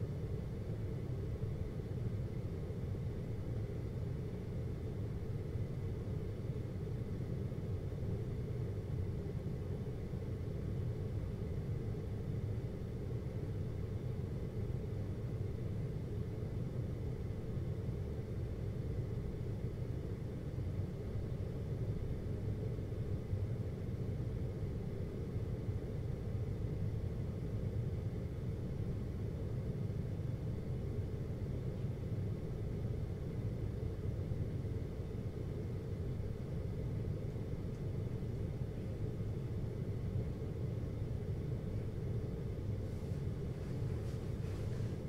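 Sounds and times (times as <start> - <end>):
window air conditioner humming: 0.0 - 45.0.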